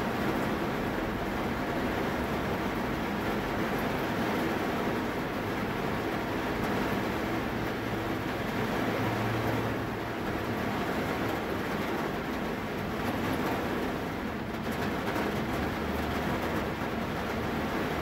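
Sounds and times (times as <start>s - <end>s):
rain on a vehicle roof: 0.0s - 18.0s.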